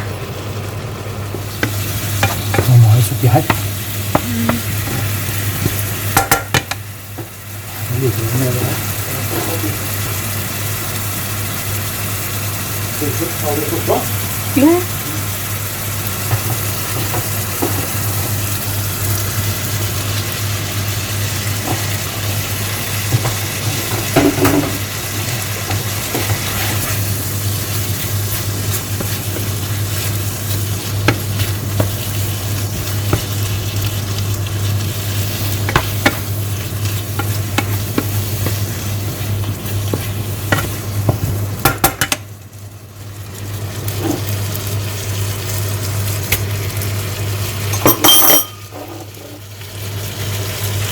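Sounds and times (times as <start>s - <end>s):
chicken sizzling in a frying pan: 0.0s - 50.9s.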